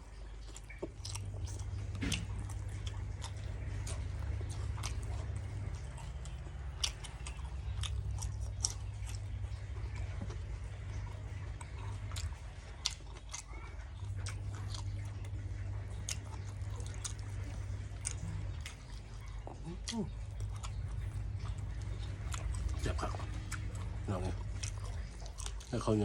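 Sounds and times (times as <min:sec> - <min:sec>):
low hum: 0:00.0 - 0:26.0
person chewing food: 0:00.0 - 0:26.0.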